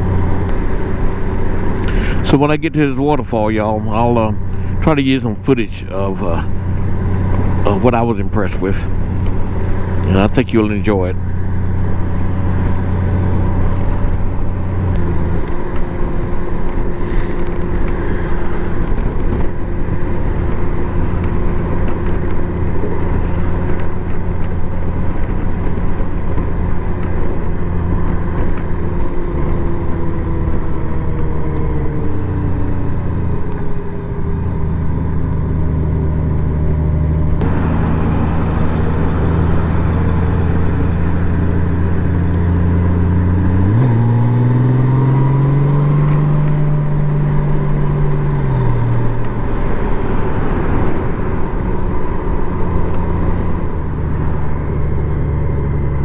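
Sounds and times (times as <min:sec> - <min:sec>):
motorcycle engine cruising: 0:00.0 - 0:56.0
road noise: 0:00.0 - 0:56.0
rushing wind: 0:00.0 - 0:56.0.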